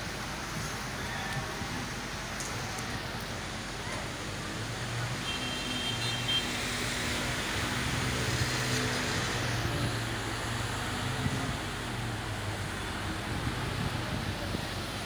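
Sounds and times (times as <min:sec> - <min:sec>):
engine hum: 0:00.0 - 0:15.0
tyres through water: 0:00.0 - 0:15.0.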